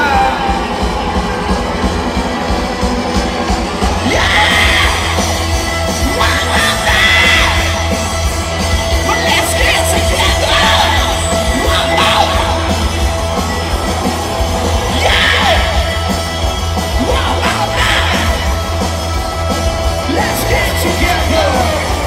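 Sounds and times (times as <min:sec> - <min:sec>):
drums: 0:00.0 - 0:22.0
electric guitar: 0:00.0 - 0:22.0.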